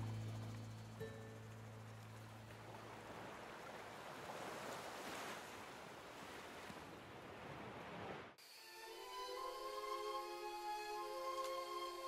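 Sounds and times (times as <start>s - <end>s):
gentle waves: 0.0s - 12.0s.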